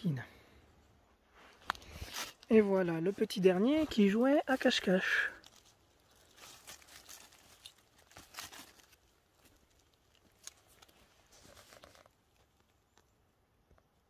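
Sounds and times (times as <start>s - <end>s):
dry leaves rustling and crackling: 1.6s - 13.0s.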